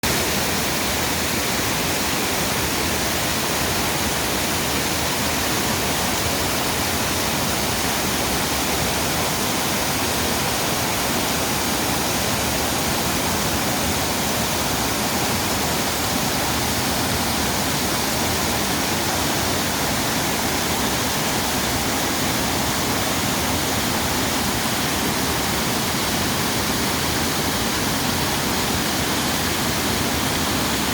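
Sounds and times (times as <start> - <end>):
rushing water: 0.0 - 30.9.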